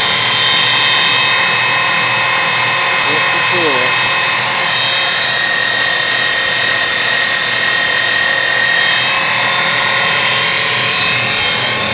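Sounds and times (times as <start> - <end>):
electric motor whining: 0.0 - 11.9.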